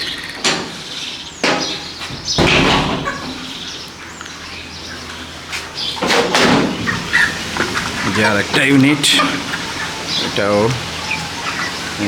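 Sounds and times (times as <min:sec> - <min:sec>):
chickens calling and stirring: 0:00.0 - 0:12.0.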